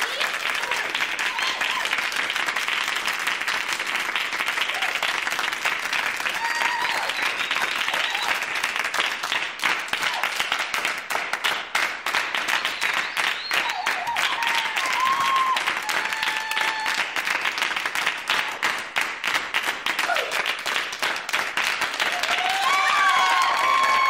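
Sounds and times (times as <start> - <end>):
audience applauding: 0.0 - 24.0.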